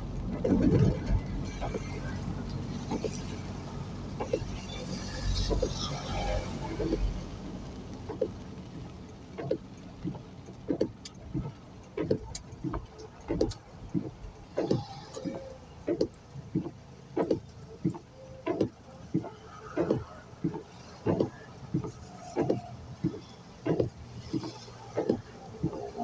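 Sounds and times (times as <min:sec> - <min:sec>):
road rumble: 0:00.0 - 0:26.0.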